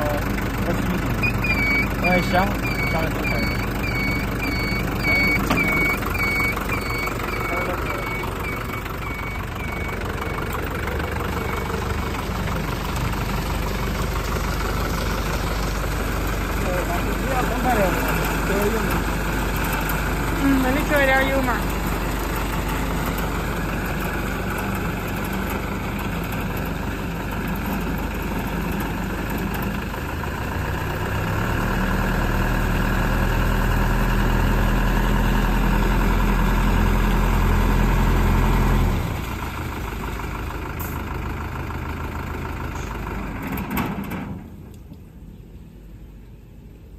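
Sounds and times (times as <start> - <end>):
truck engine idling and revving: 0.0 - 46.9.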